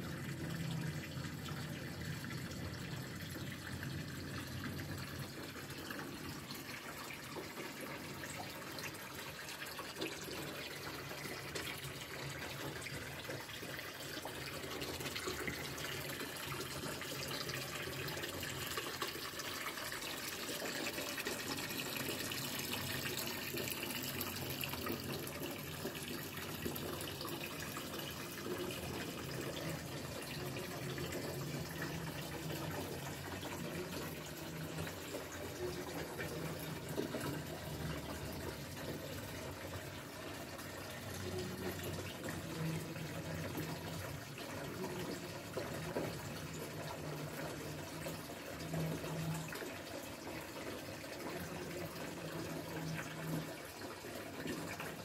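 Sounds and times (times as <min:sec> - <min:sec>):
water trickling and bubbling: 0:00.0 - 0:55.0.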